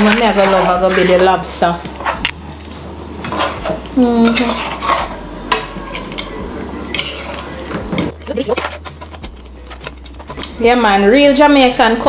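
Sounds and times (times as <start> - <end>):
metal spoon stirring in metal pot: 0.0 - 11.3.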